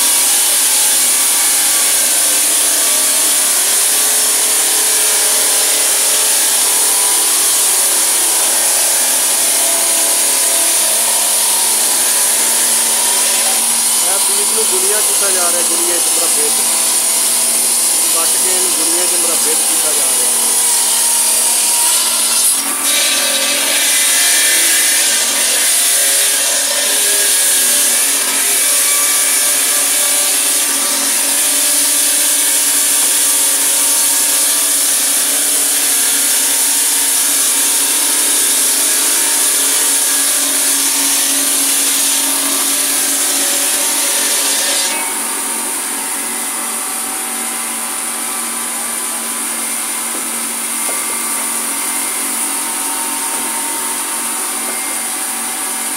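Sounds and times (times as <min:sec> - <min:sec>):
stone saws cutting marble: 0:00.0 - 0:55.9.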